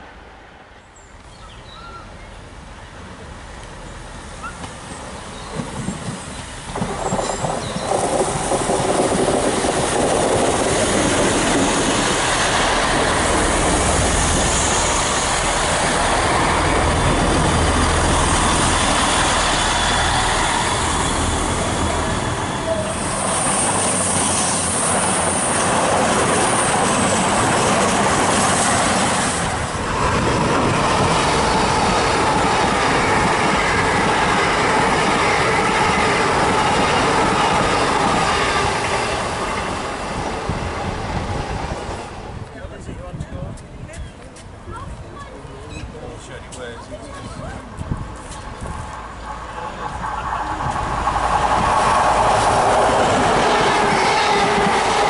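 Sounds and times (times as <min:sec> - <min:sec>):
train engines and wheels passing: 0:00.0 - 0:55.0.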